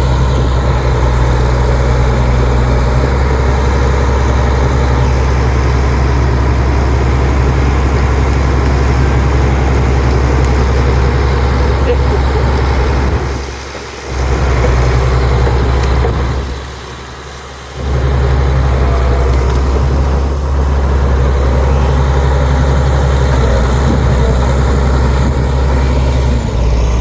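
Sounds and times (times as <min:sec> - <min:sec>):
bulldozer diesel engine droning: 0:00.0 - 0:27.0.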